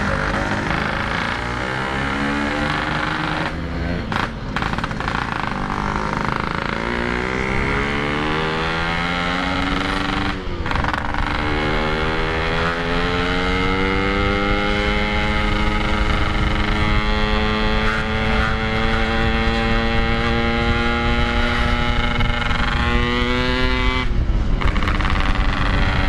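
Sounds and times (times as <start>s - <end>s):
two-stroke motorcycle engine accelerating: 0.0s - 26.0s.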